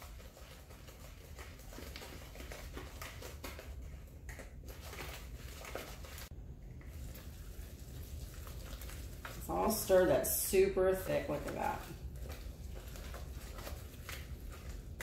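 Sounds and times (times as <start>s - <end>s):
whisk stirring batter in a bowl: 0.0s - 15.0s.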